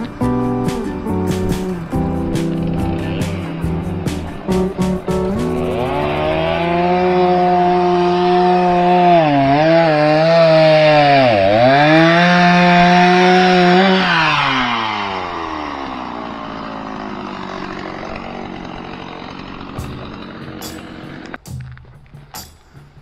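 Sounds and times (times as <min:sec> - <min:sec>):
chainsaw cutting into log: 0:00.0 - 0:21.4.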